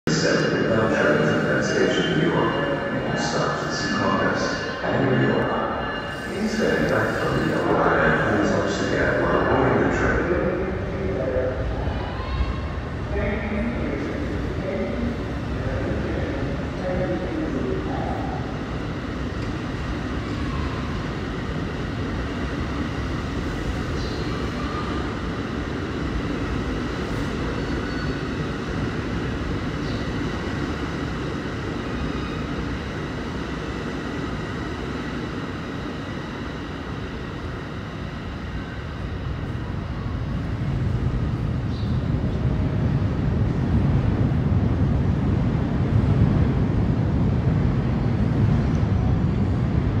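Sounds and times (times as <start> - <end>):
faint high whine: 0.1 - 43.7.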